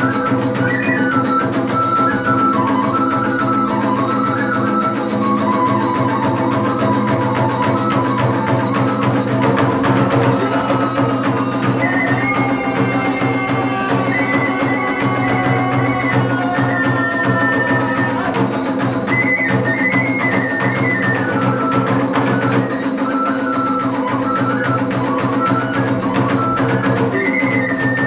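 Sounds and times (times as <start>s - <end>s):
bamboo flute melody: 0.0s - 28.0s
drums and percussion: 0.0s - 28.0s.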